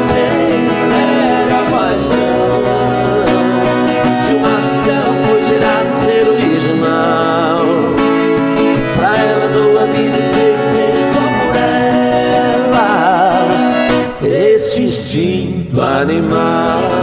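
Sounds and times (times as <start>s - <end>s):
accordion: 0.0s - 14.4s
acoustic guitar: 0.0s - 17.0s.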